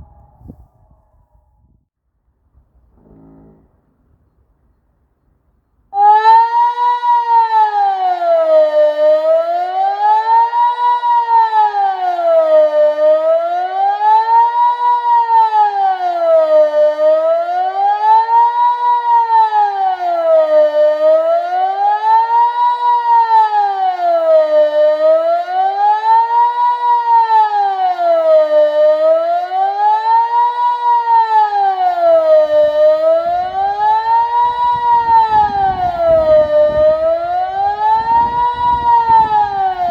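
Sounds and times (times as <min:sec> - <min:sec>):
civil defence siren wailing: 0:00.0 - 0:01.8, 0:05.9 - 0:39.9.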